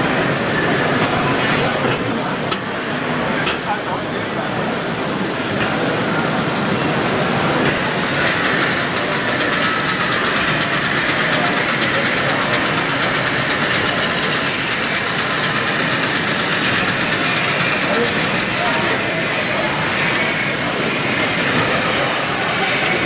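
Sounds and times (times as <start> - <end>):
exhibition hall hubbub: 0.0 - 23.0
model tram running on track: 0.0 - 23.0.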